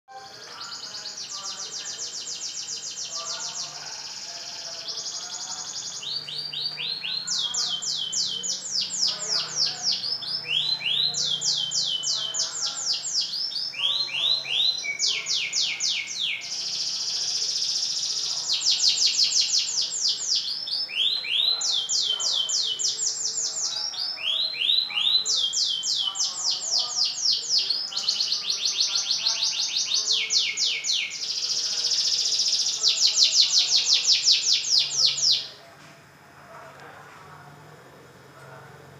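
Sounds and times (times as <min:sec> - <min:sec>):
canary singing fast trills: 0:00.1 - 0:35.6.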